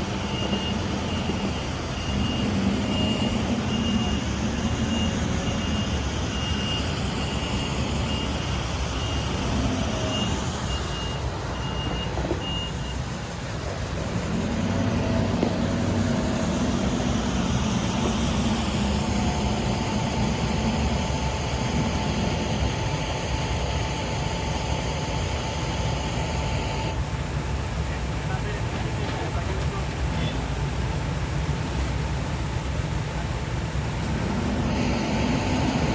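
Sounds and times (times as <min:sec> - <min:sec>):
reversing alarm beeping: 0:00.0 - 0:27.0, 0:33.8 - 0:35.9
diesel engine running: 0:00.0 - 0:35.9.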